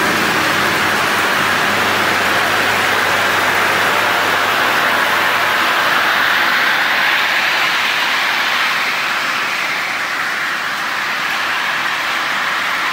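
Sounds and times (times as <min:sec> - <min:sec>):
granulator machine rushing noise: 0:00.0 - 0:12.9.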